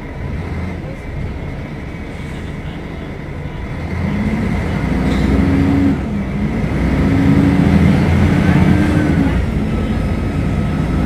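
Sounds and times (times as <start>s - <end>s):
bus diesel engine accelerating: 0.0s - 11.0s.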